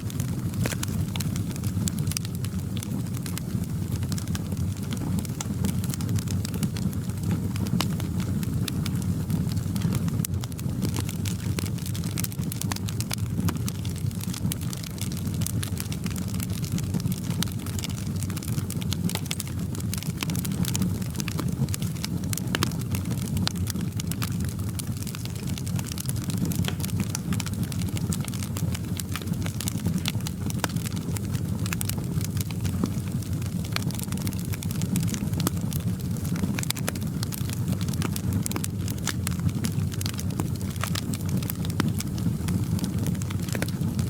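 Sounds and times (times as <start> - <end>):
fire crackling and popping: 0.0 - 44.0.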